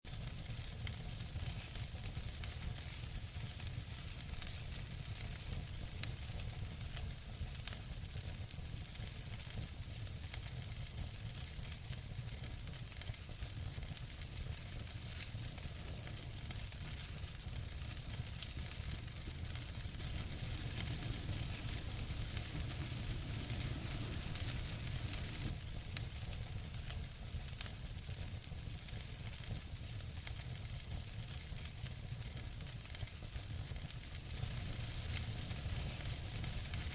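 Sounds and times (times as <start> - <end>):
wood fire crackling and popping: 0.1 - 36.9.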